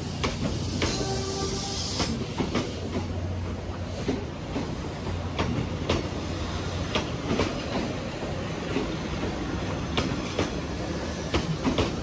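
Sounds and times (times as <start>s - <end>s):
train coaches rumbling past: 0.0s - 12.0s
wheels clacking over rail joints: 0.1s - 12.0s.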